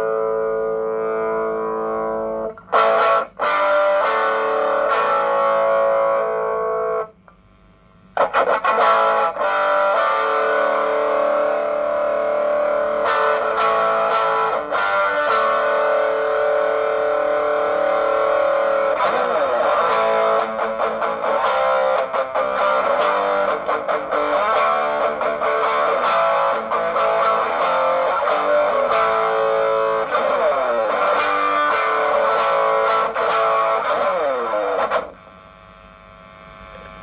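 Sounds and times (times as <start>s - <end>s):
overdriven electric guitar strumming: 0.0s - 7.3s, 8.1s - 35.6s.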